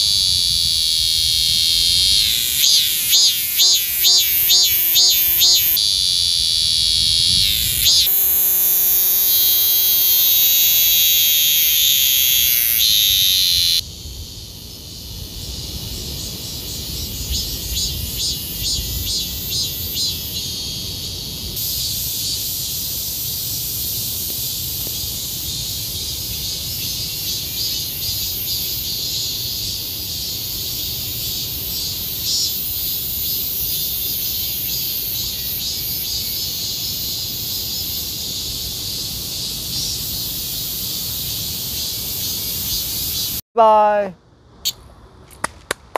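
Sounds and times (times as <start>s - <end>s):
cicada shrill buzz: 0.0s - 43.4s
distant cicadas pulsing buzz: 0.0s - 43.4s.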